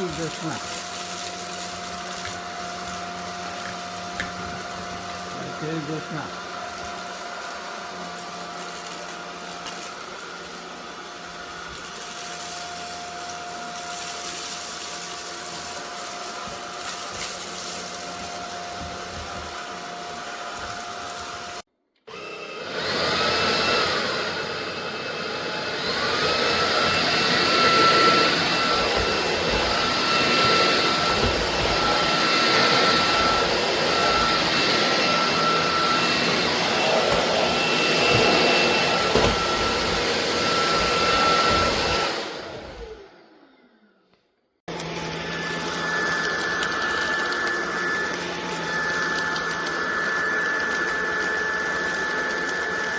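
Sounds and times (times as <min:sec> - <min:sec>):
vacuum cleaner motor whining: 0:00.0 - 0:52.9.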